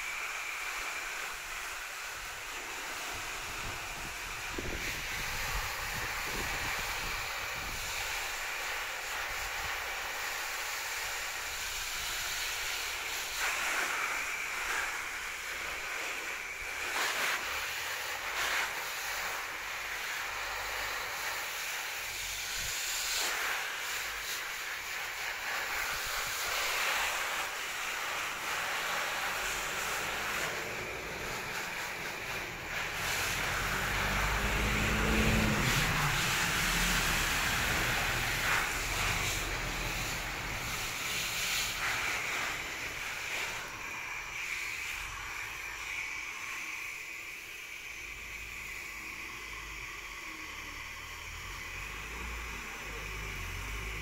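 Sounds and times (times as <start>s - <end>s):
hose nozzle spraying water: 0.0s - 54.0s.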